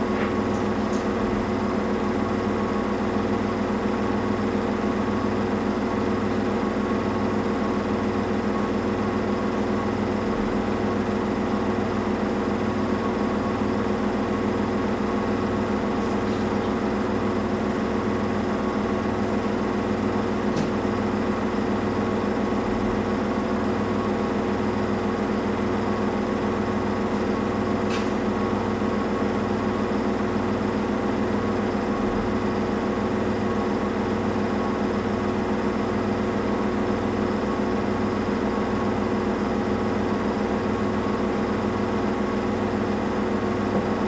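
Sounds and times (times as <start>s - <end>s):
washing machine running: 0.0s - 44.0s.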